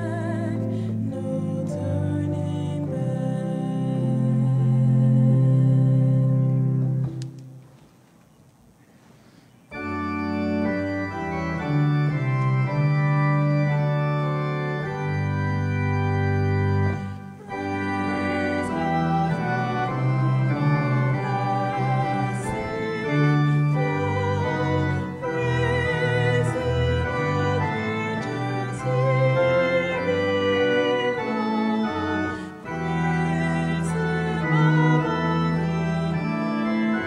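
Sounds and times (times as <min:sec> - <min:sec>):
organ music: 0:00.0 - 0:37.0.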